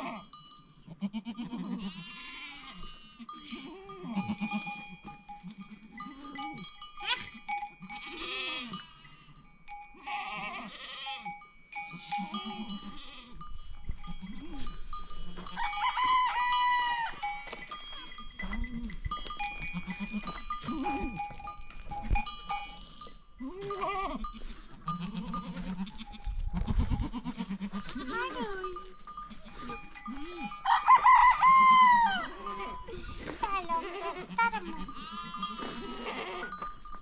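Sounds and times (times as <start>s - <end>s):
livestock bells ringing: 0.0s - 37.0s
sheep and goats bleating: 0.0s - 37.0s.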